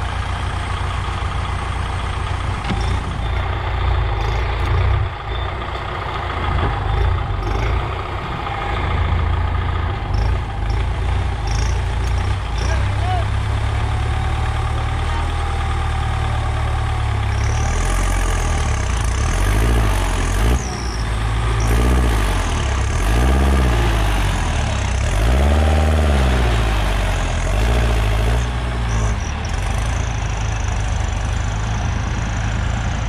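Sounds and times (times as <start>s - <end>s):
tractor diesel engines under load: 0.0s - 33.0s.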